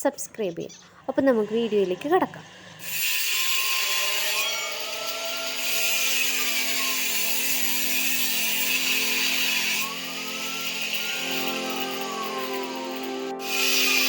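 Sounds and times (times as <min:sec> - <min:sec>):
power tool cutting metal pipe: 0:01.2 - 0:14.0.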